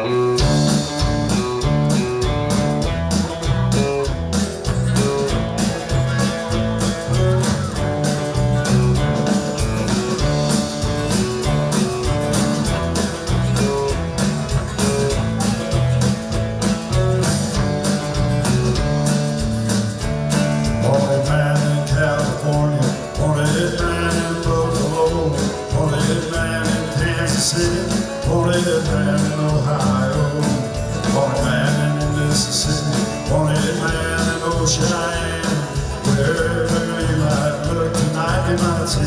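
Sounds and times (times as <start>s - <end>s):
country band instrumental: 0.0s - 39.0s.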